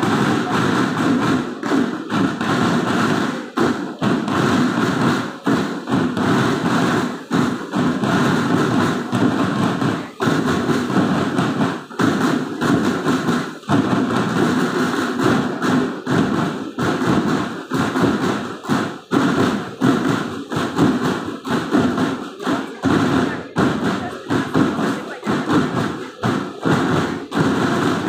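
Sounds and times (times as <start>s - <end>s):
snare drums playing: 0.0s - 28.0s.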